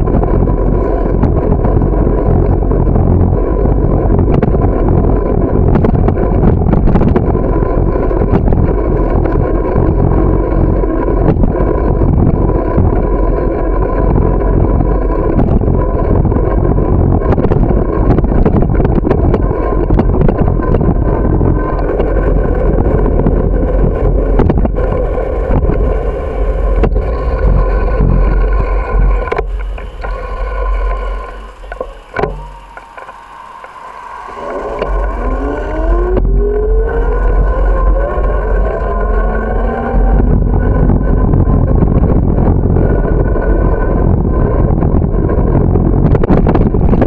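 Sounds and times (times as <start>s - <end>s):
bicycle road rumble: 0.0s - 47.0s
faint steady whine: 0.0s - 47.0s
wind buffeting microphone: 0.0s - 47.0s.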